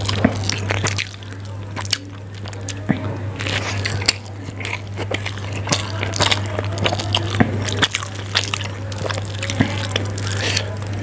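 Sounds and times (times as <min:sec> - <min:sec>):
fingers squishing noodles: 0:00.0 - 0:11.0
steady low hum: 0:00.0 - 0:11.0
wet chewing and mouth smacks: 0:00.0 - 0:11.0.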